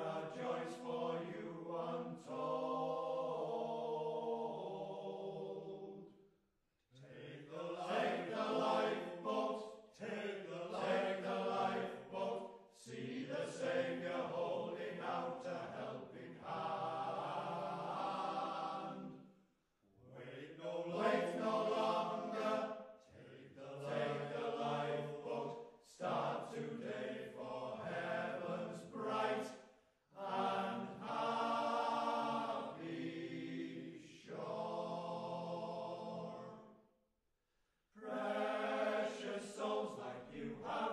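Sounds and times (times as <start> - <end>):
choir singing: 0.0 - 6.2, 6.9 - 19.4, 20.0 - 36.8, 38.0 - 40.9.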